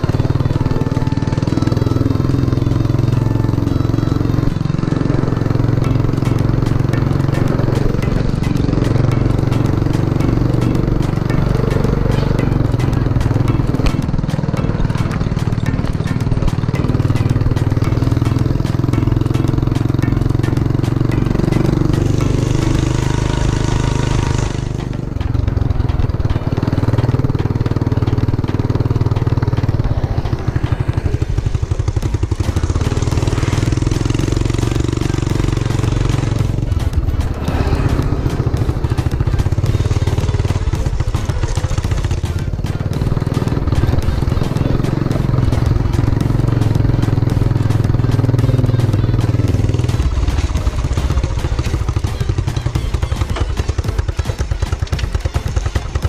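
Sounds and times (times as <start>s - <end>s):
small motorbike engine running: 0.0s - 56.0s.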